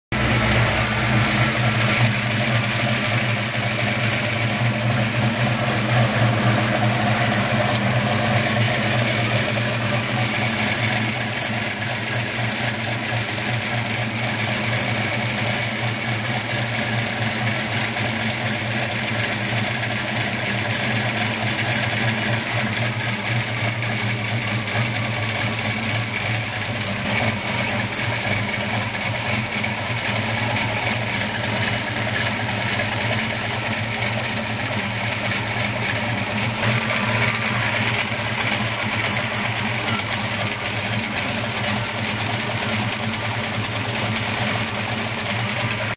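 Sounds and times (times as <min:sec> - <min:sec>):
engine idling: 0:00.1 - 0:45.9.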